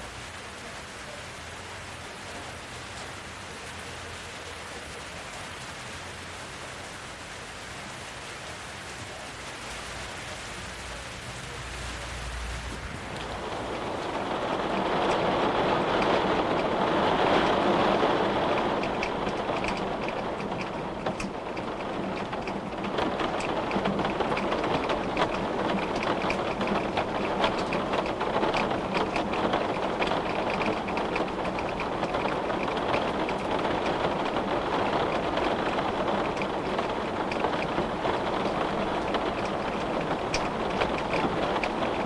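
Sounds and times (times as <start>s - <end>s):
rain pattering on hard surfaces: 0.0s - 42.0s.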